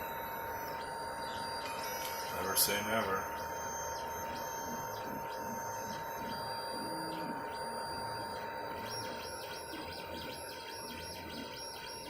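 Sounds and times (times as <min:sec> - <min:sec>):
constant high tone: 0:00.0 - 0:12.0
stepper motor whines: 0:00.0 - 0:12.0.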